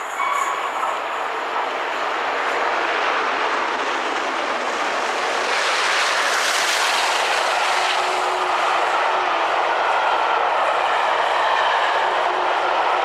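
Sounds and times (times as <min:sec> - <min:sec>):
steam train rushing past: 0:00.0 - 0:13.0.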